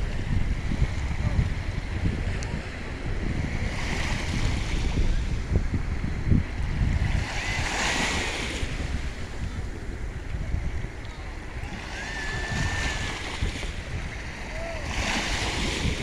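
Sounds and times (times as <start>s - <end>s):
sea waves washing in: 0.0s - 16.0s
wind buffeting microphone: 0.0s - 16.0s.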